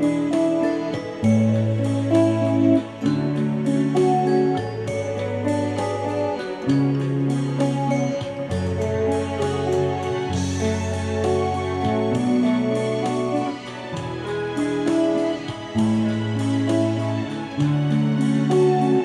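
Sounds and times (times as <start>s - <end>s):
instrumental music with guitar: 0.0s - 19.0s.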